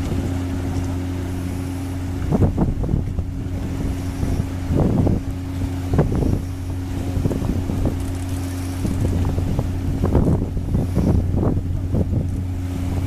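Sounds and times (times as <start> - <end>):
ship engine drone: 0.0 - 13.0
wind gusting across microphone: 0.0 - 13.0.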